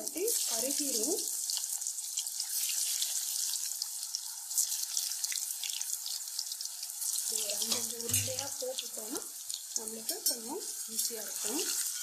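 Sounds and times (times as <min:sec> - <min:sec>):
deep-frying sizzle with crackling: 0:00.0 - 0:12.0.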